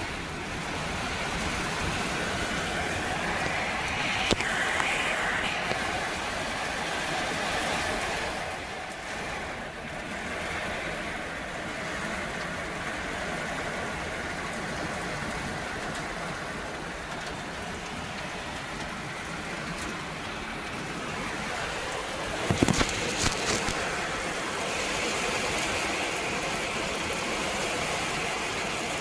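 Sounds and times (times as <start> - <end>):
rain falling steadily: 0.0 - 29.0.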